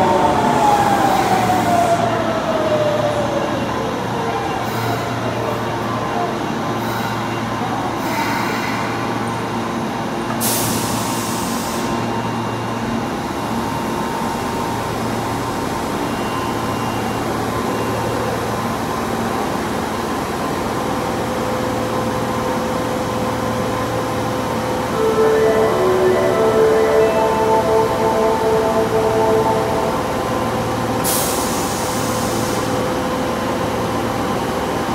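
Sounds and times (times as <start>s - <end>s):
subway train mechanical hum: 0.0s - 34.9s.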